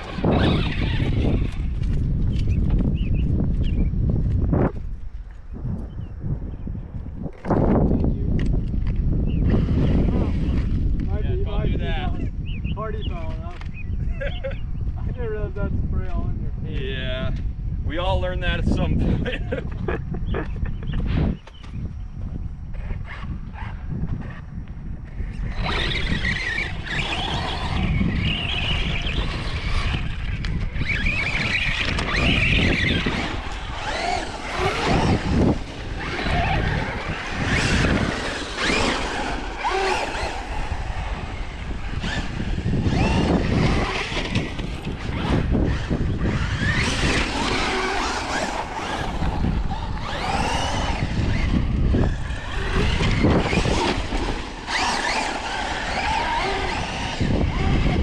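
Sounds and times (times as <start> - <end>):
tyre and ground noise: 0.0 - 12.4, 13.0 - 58.0
electric motors whining: 0.0 - 16.2, 17.3 - 58.0
wind rumbling on microphone: 0.0 - 58.0.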